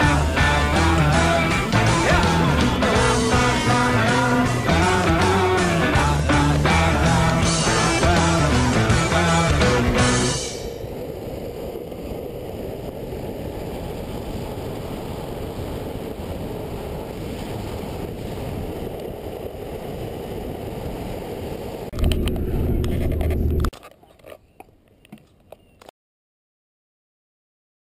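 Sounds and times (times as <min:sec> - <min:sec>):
longboard wheels rolling on asphalt: 0:00.0 - 0:25.9.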